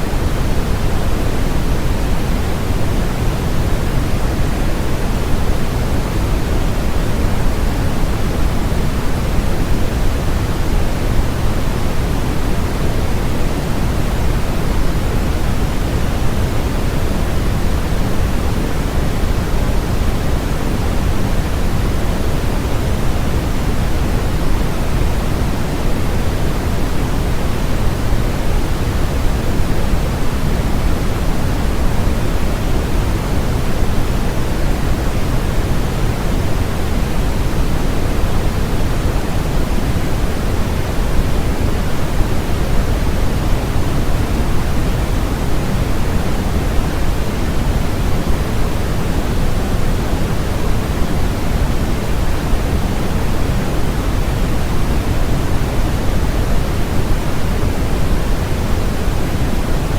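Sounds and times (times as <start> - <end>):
synthesized white noise hiss: 0.0 - 59.9.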